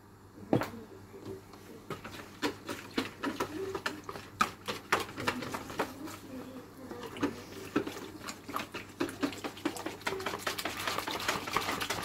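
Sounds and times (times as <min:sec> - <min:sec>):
whisk tapping plastic bowl: 0:01.8 - 0:12.0.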